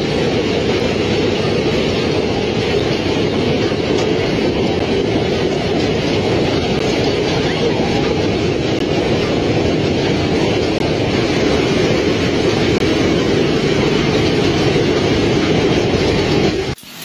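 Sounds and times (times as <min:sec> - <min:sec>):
strong wind: 0:00.0 - 0:16.8
hail beating down: 0:00.0 - 0:17.0.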